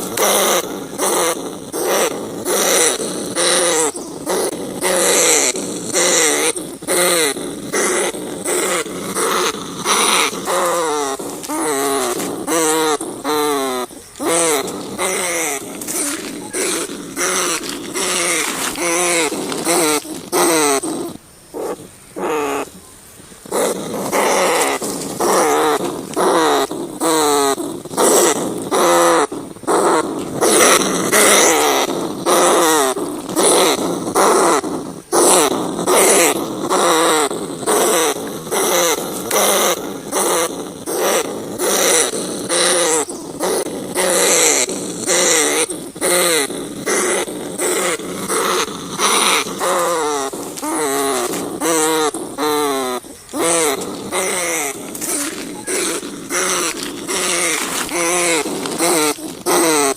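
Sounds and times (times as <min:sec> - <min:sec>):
rats squealing and growling: 0:00.0 - 0:22.8, 0:23.4 - 0:59.9.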